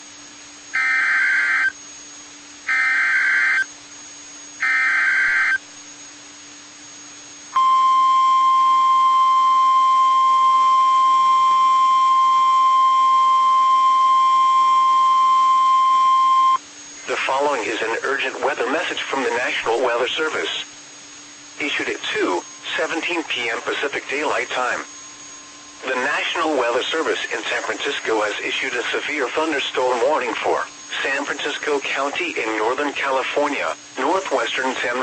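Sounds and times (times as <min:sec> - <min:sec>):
steady alarm tone: 0:00.0 - 0:35.0
warbling data tones: 0:00.8 - 0:01.8, 0:02.7 - 0:03.7, 0:04.5 - 0:05.6, 0:07.5 - 0:35.0.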